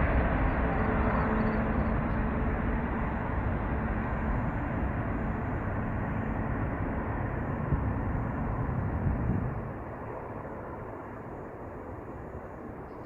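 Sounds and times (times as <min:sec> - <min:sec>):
jet aircraft engines rumbling: 0:00.0 - 0:13.0.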